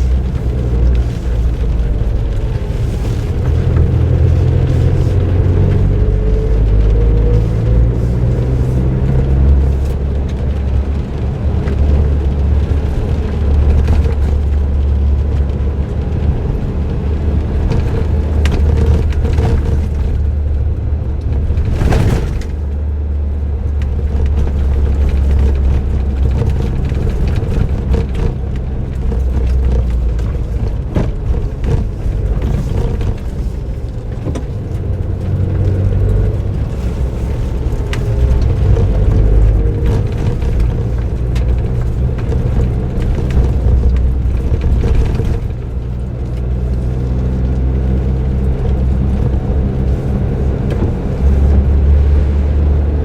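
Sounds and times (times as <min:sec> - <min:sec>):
car engine droning: 0:00.0 - 0:53.0
road noise: 0:00.0 - 0:53.0.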